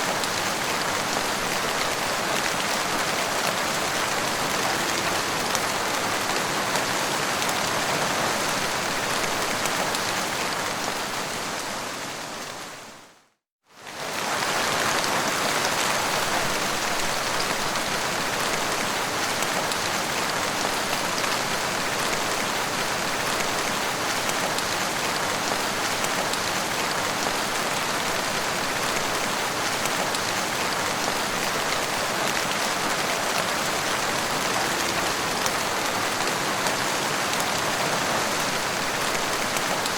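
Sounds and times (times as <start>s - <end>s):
heavy rain falling: 0.0s - 13.0s, 13.8s - 39.9s.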